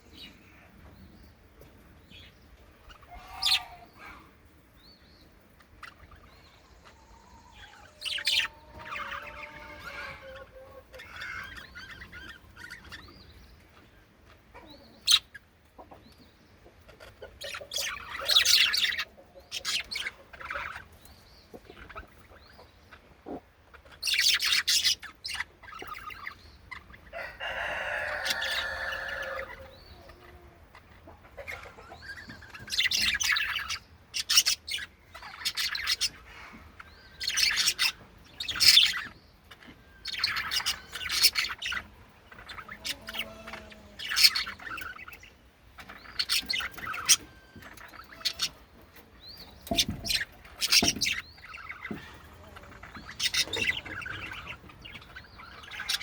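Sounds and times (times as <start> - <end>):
budgies chirping and chattering: 0.0 - 56.0.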